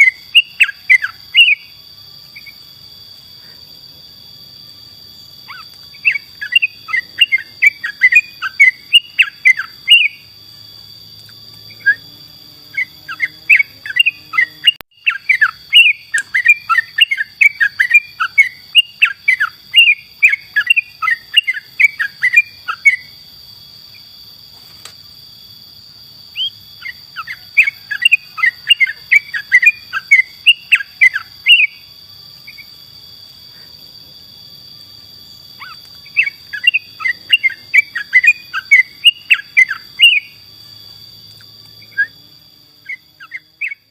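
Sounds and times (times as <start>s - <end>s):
high-pitched insect-like drone: 0.0s - 43.9s.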